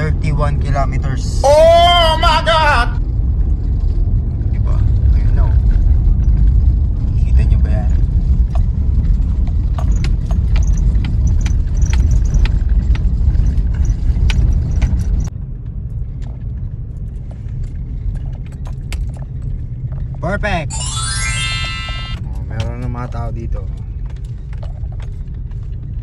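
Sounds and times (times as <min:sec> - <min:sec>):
car road noise rumble: 0:00.0 - 0:20.7, 0:22.2 - 0:26.0.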